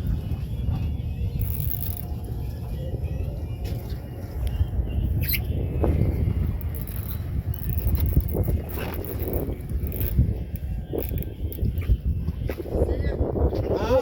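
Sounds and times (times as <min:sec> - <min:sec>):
wind and water rumble on microphone: 0:00.0 - 0:14.0.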